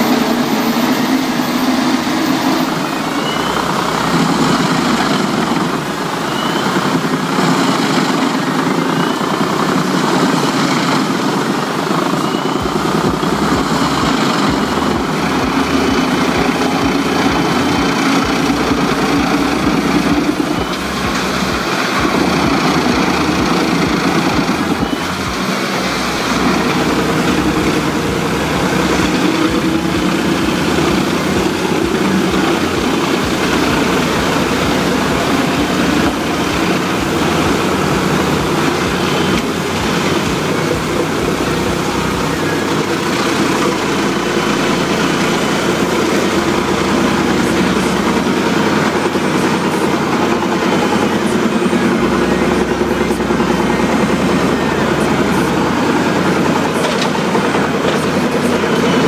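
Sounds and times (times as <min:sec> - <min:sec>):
tractor engine running: 0:00.0 - 0:59.0
wood chipper running: 0:00.0 - 0:59.0.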